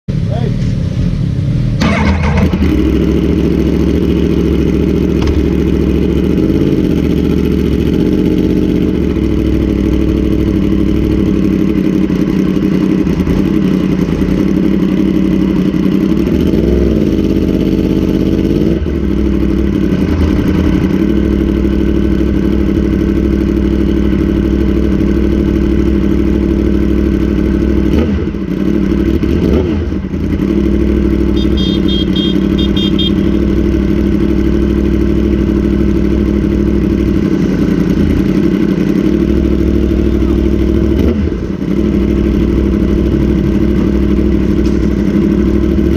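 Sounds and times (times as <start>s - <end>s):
motorcycle engine running: 0.1s - 45.9s.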